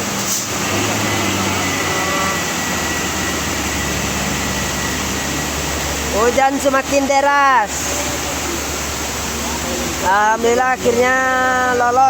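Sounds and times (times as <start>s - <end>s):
heavy rain hissing: 0.0s - 12.0s
truck diesel engine running: 0.0s - 12.0s.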